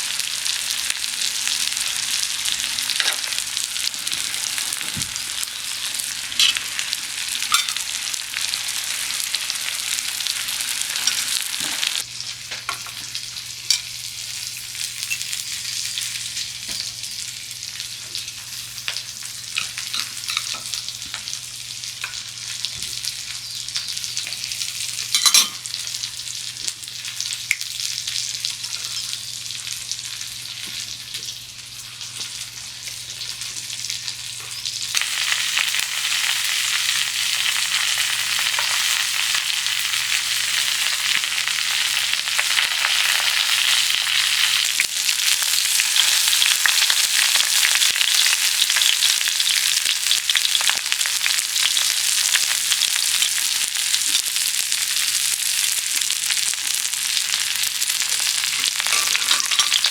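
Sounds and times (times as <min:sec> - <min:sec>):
food sizzling and frying: 0:00.0 - 0:59.9.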